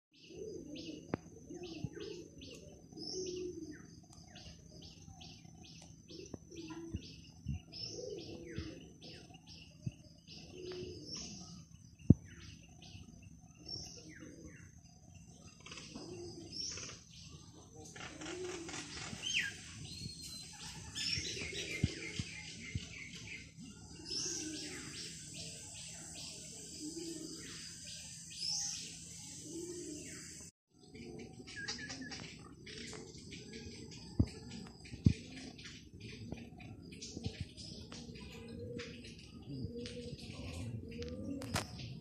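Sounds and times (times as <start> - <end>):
dove cooing: 0.2 - 13.0, 13.6 - 14.8, 15.5 - 27.7, 29.4 - 30.2, 30.8 - 42.0
small birds chirping: 0.2 - 42.0.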